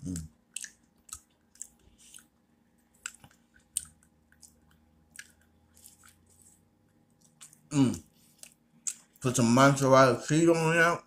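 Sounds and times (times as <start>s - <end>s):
person chewing food: 0.0s - 9.2s.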